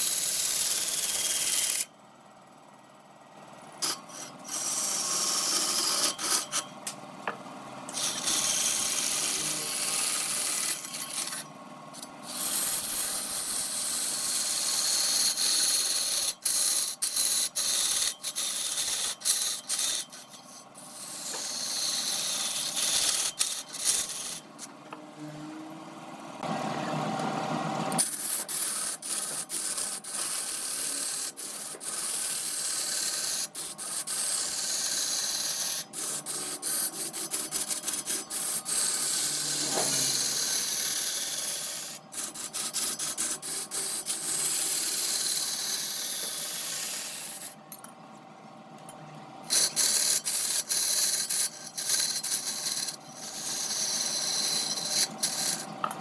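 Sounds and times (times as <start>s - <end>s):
lathe tool scraping wood: 0.0s - 1.8s, 3.8s - 6.6s, 7.9s - 24.8s, 27.9s - 47.6s, 49.5s - 56.0s.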